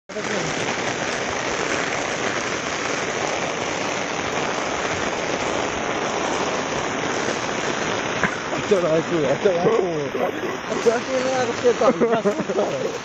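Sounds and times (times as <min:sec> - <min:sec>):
heavy rain on roofs: 0:00.1 - 0:13.0.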